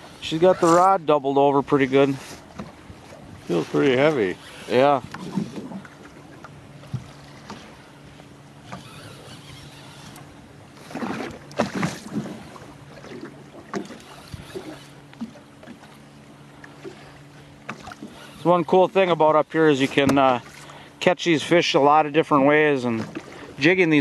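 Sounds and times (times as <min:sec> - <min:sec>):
water splashing: 0:00.0 - 0:20.9
electric trolling motor humming: 0:00.0 - 0:24.0.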